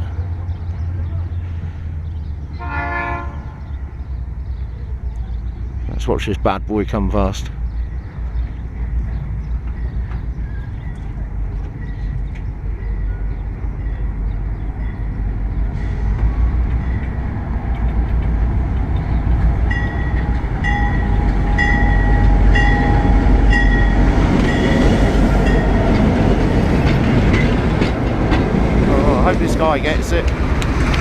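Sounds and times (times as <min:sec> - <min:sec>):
diesel locomotive rumble: 0:00.0 - 0:31.0.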